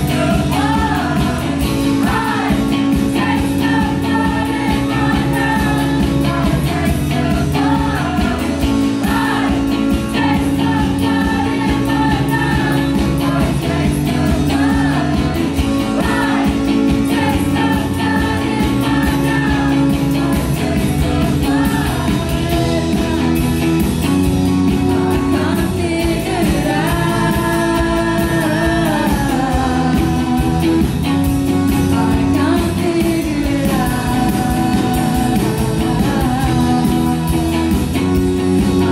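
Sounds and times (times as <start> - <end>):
drum kit with cymbals: 0.0 - 38.9
woman singing: 0.0 - 38.9.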